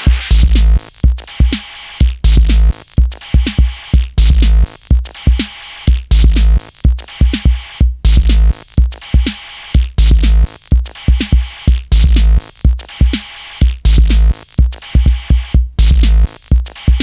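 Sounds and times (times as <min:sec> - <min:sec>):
electronic music with drum-machine beat: 0:00.0 - 0:17.0.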